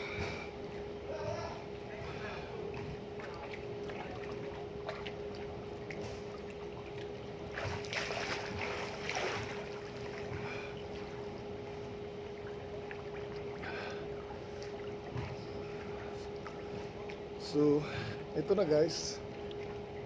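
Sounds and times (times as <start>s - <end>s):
ship machinery humming: 0.0s - 20.0s.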